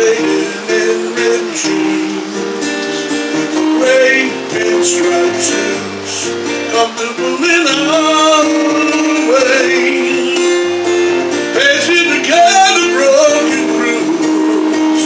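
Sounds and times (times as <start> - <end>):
acoustic guitar strumming: 0.0 - 15.0
man singing: 0.0 - 15.0.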